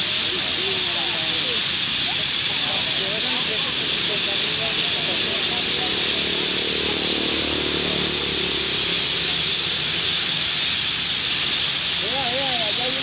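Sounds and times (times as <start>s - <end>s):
flock of parrots calling: 0.0s - 13.0s.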